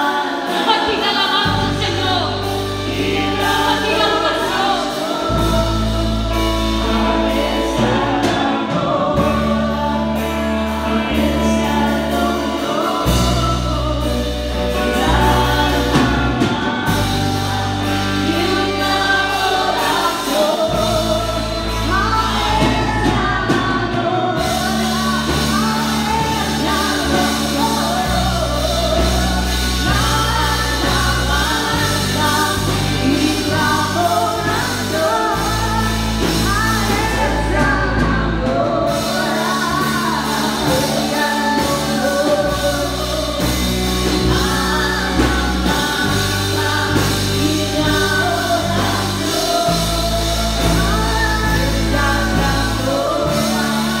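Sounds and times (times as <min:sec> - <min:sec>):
band with drums and guitar: 0:00.0 - 0:54.0
woman singing into microphone: 0:00.0 - 0:54.0.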